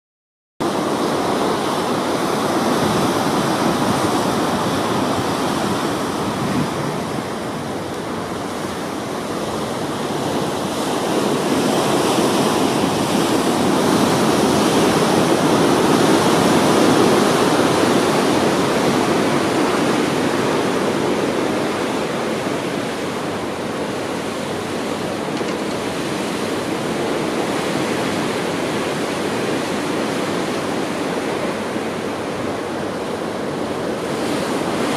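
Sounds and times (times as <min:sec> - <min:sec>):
water rushing along ship hull: 0:00.6 - 0:34.9.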